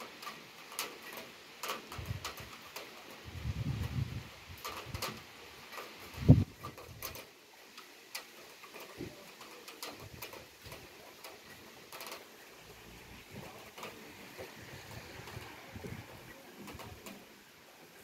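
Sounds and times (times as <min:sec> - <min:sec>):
steady hiss of rain: 0:00.0 - 0:18.0.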